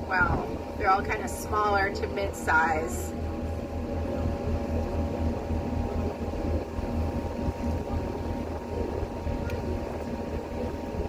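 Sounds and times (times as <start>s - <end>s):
boat engine droning: 0.0s - 11.0s
faint steady tones: 0.0s - 11.0s.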